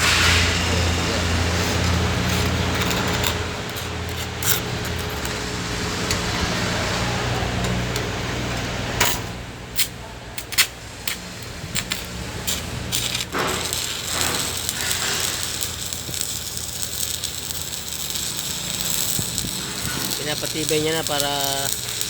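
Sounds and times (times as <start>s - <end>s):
arc welding crackles and sizzle: 0.0s - 8.3s, 9.7s - 22.0s.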